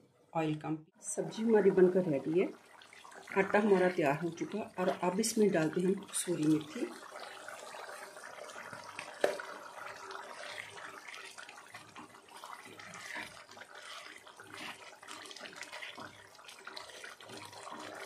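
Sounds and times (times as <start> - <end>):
curry bubbling and popping: 1.2 - 18.0
spatula stirring: 1.3 - 18.0.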